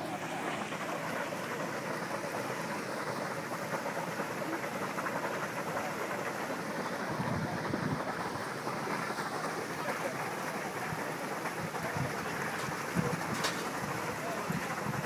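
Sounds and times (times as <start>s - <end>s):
hot spring bubbling and hissing: 0.0s - 15.0s.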